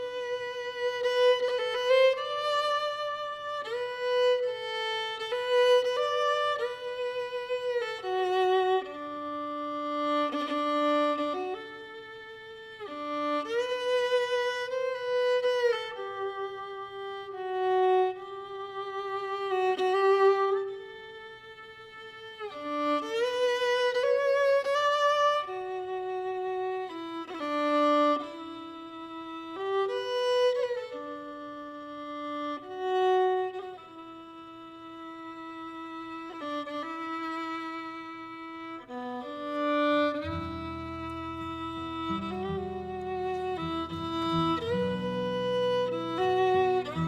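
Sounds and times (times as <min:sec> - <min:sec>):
solo violin melody: 0:00.0 - 0:47.0.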